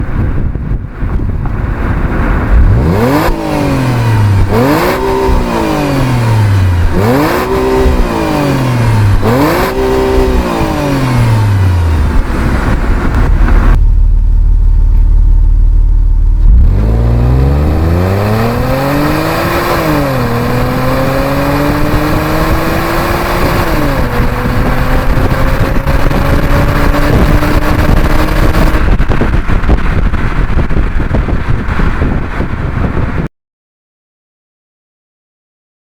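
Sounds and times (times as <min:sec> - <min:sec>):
road and wind noise: 0:00.0 - 0:33.3
car engine accelerating: 0:01.4 - 0:33.3.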